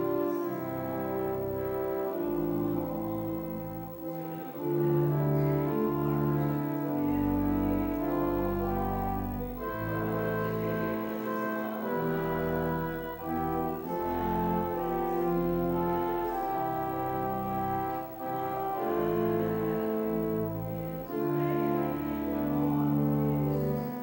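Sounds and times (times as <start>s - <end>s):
church organ playing a hymn: 0.0s - 24.0s.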